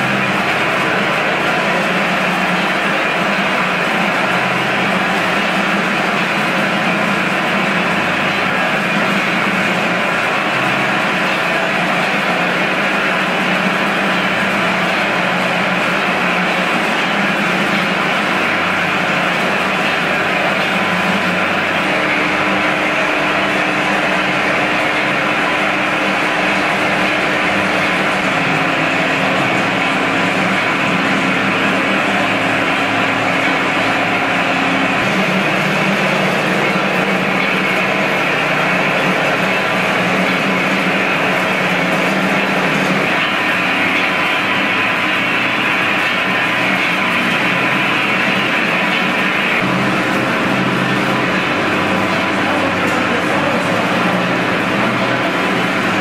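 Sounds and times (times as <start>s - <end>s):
roasting machine whirring: 0.0s - 56.0s.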